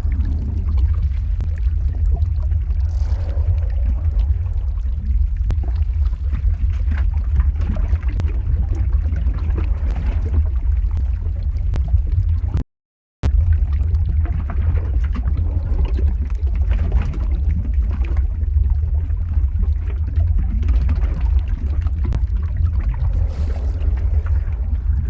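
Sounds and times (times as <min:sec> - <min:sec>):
lava crackles and pops: 0:00.0 - 0:12.6, 0:13.2 - 0:25.0
lava deep rumble: 0:00.0 - 0:12.6, 0:13.2 - 0:25.0.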